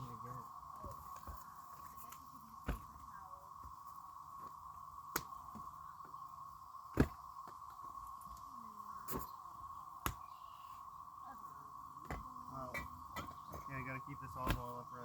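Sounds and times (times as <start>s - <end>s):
steady buzzing drone: 0.0s - 15.0s.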